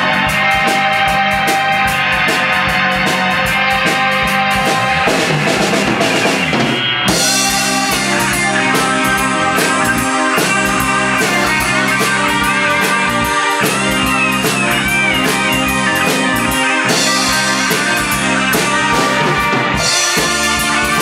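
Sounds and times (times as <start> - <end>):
lead electric guitar: 0.0 - 21.0
live rock band playing: 0.0 - 21.0.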